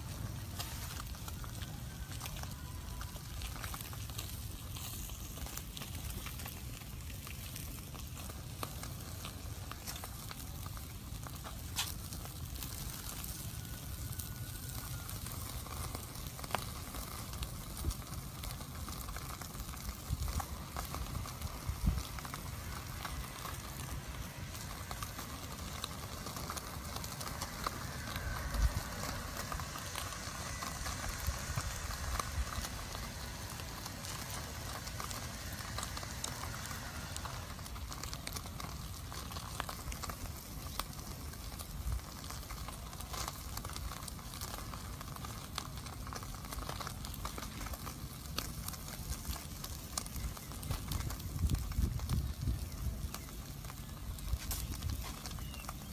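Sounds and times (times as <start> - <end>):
steady fire hiss: 0.0 - 55.9
wood fire crackling: 0.0 - 55.9.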